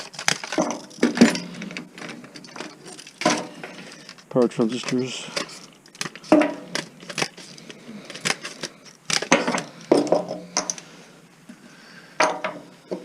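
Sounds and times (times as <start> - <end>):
metal parts and tools clanking: 0.0 - 10.9, 12.2 - 13.0.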